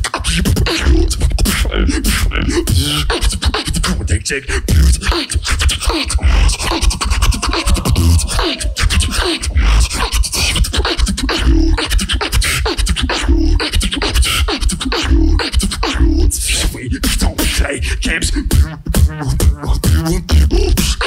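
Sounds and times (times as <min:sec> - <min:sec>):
beatboxing beat: 0:00.0 - 0:21.0
gliding vocal tones: 0:00.0 - 0:21.0.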